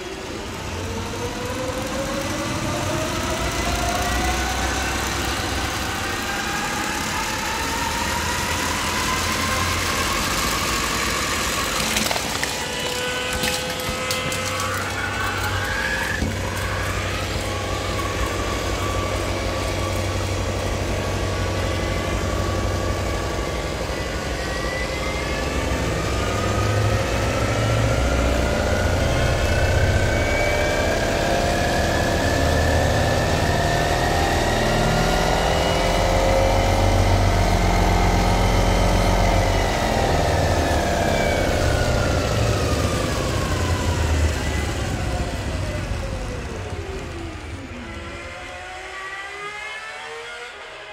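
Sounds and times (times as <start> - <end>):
car engine drone: 0.0 - 50.9.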